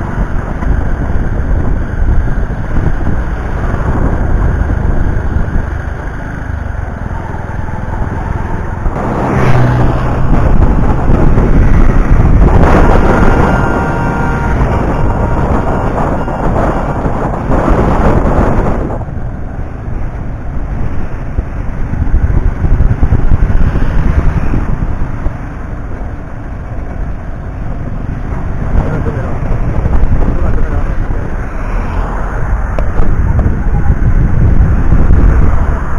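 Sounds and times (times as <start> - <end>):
vehicle low rumble: 0.0 - 35.9.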